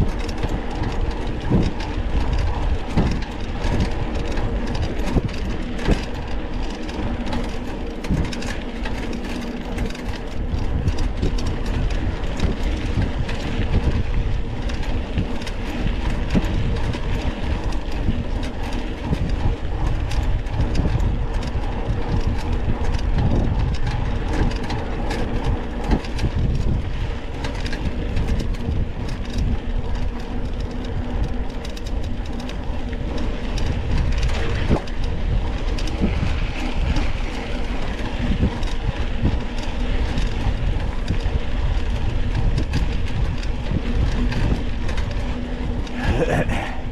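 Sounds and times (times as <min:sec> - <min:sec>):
bike rattling and clattering: 0:00.0 - 0:46.9
mountain bike rumbling on dirt trail: 0:00.0 - 0:46.9.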